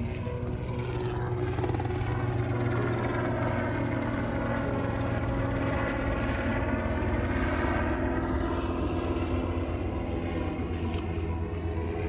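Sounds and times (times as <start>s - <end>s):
propeller aircraft passing overhead: 0.0s - 12.0s.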